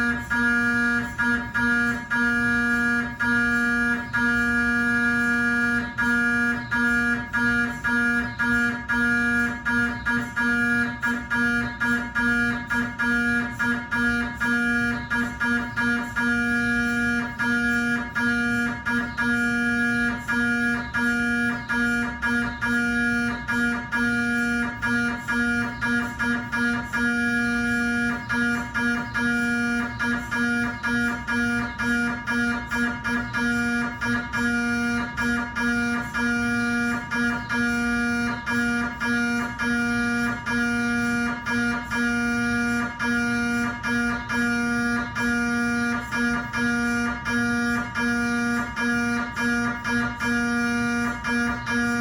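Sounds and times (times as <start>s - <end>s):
mri scanner buzzing pulses: 0.0s - 52.0s.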